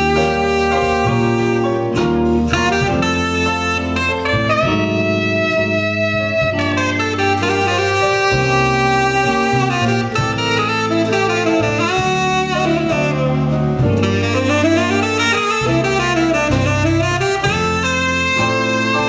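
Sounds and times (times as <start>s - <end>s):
bass line: 0.0s - 19.0s
jazz big band playing: 0.0s - 19.0s
saxophone solo: 0.0s - 19.0s.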